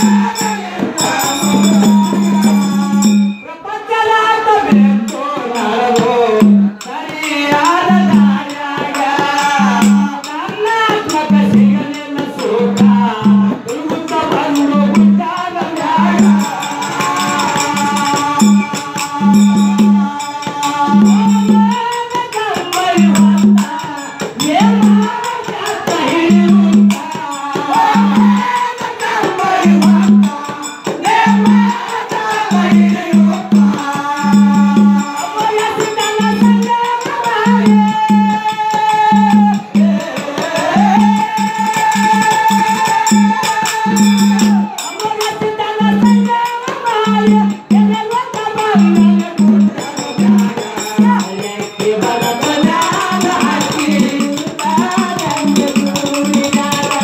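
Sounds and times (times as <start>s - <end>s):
drum beats: 0.0s - 3.5s, 4.6s - 57.0s
jingling rattle percussion: 0.0s - 3.5s, 4.6s - 57.0s
men singing: 0.0s - 57.0s.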